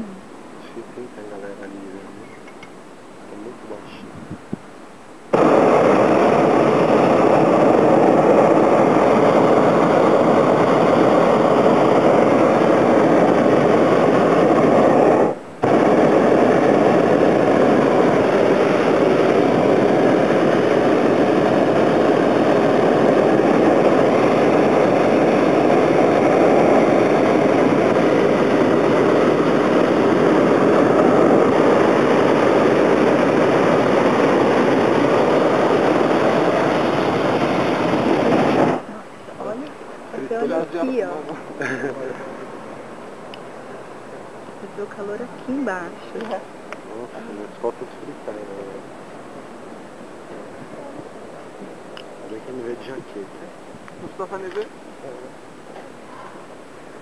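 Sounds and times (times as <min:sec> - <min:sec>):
propane burner blast: 0:05.3 - 0:57.0.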